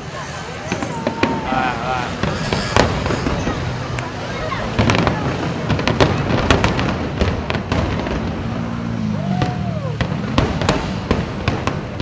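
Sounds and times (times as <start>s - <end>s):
distant fireworks cracking: 0.0s - 12.0s.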